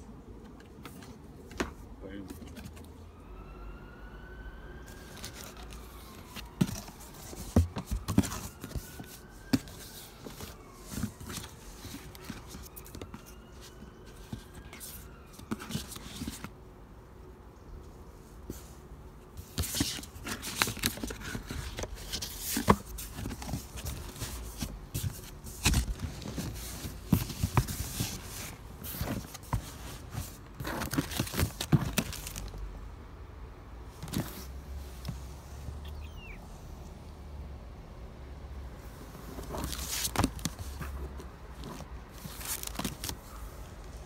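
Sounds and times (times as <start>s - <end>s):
cardboard and paper rustling: 0.4s - 3.0s, 4.8s - 16.6s, 18.2s - 32.6s, 33.9s - 35.8s, 39.0s - 44.0s.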